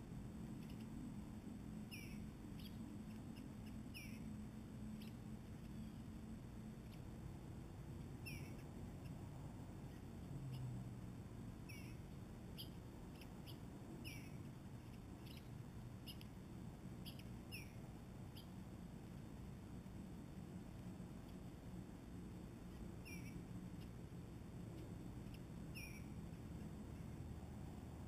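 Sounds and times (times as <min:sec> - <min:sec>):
songbird chirps: 0:00.0 - 0:27.6.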